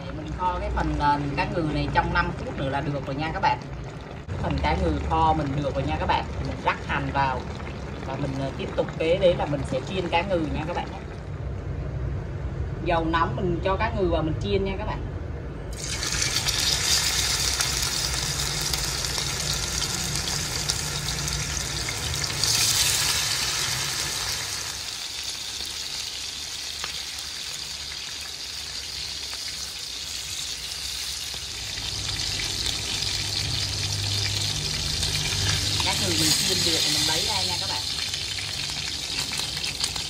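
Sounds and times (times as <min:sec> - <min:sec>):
fish sizzling in frying pan: 0:00.0 - 0:11.1, 0:15.7 - 0:40.0.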